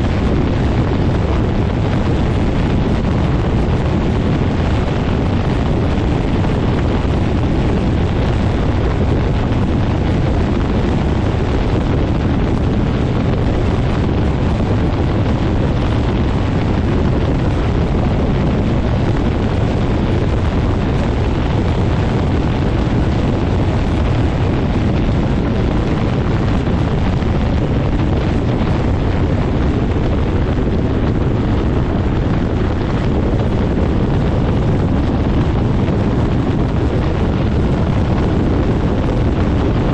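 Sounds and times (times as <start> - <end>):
ultralight engine and propeller: 0.0 - 39.9
wind buffeting microphone: 0.0 - 39.9.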